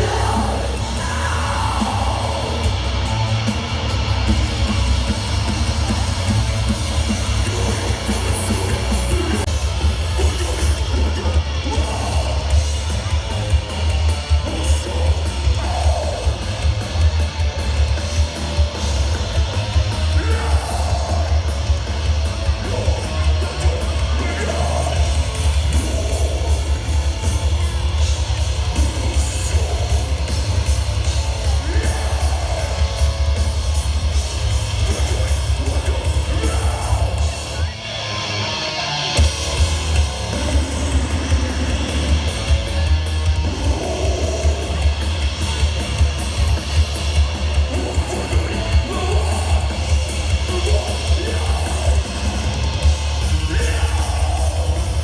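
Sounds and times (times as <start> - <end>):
death metal band playing: 0.0 - 55.0.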